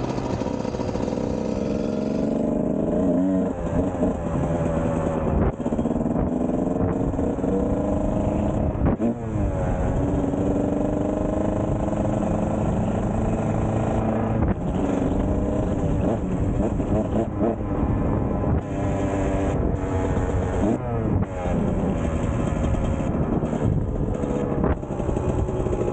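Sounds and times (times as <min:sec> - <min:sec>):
two-stroke engine running: 0:00.0 - 0:25.9.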